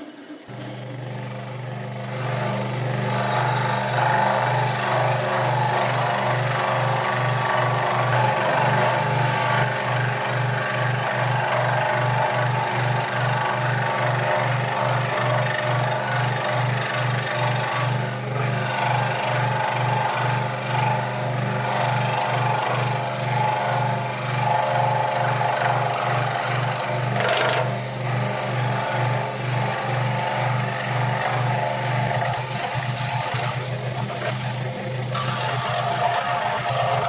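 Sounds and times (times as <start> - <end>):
scroll saw cutting wood: 0.0 - 37.0.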